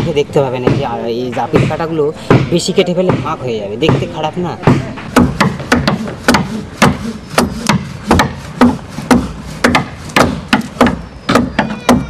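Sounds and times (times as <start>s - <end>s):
hand tools striking wood: 0.0s - 12.0s.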